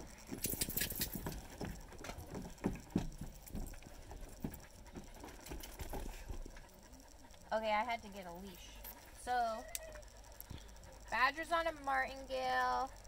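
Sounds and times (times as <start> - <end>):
small clicks and rattles: 0.0 - 13.0.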